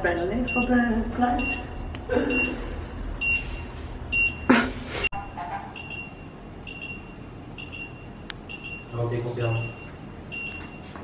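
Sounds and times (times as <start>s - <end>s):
electronic safe beeping: 0.4s - 4.5s, 5.1s - 11.0s.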